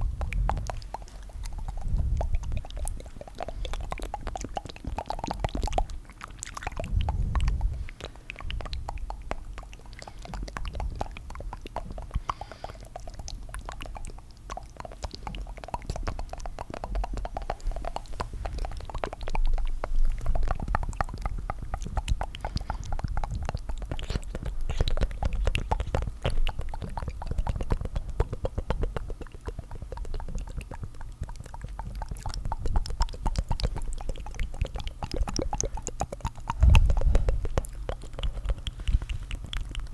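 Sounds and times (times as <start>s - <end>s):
wet mouth clicks and tongue flutters: 0.0s - 39.9s.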